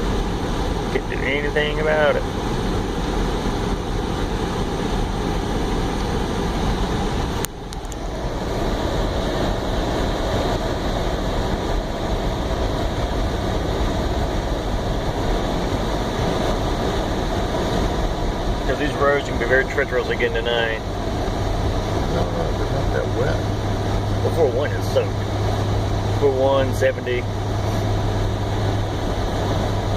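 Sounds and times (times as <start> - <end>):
car cabin road and engine noise: 0.0 - 29.9.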